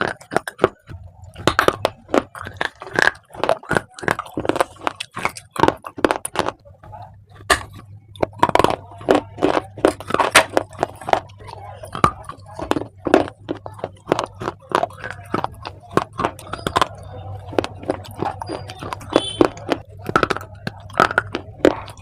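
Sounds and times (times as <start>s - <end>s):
crunching of chewed clay: 0.0s - 22.0s.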